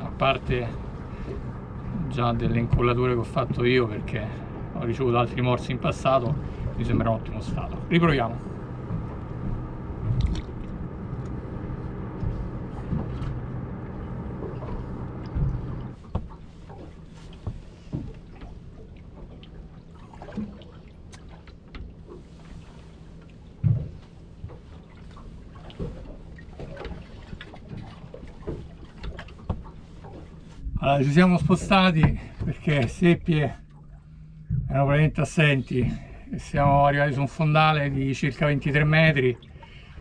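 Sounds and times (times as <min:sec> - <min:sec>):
boat engine running: 0:00.0 - 0:40.0
faint low hum: 0:00.0 - 0:40.0
muffled underwater water noise: 0:00.0 - 0:40.0.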